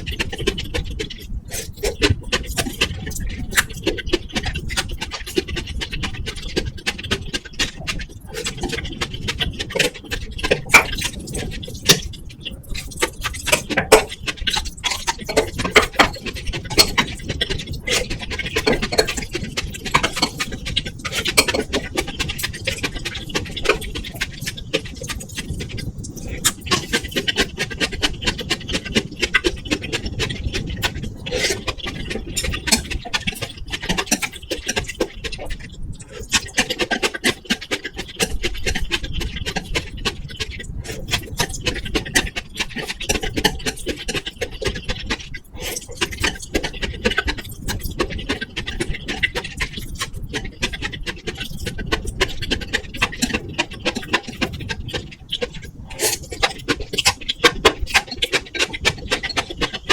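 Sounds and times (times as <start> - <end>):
chewing: 0.0 - 59.9.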